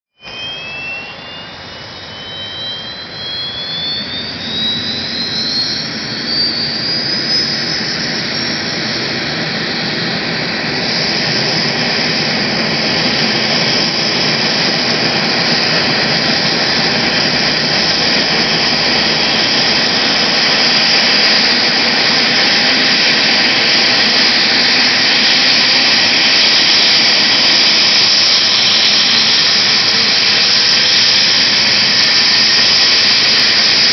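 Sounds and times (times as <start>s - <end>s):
helicopter rotor noise: 0.2s - 33.9s
helicopter turbine whine: 0.2s - 33.9s.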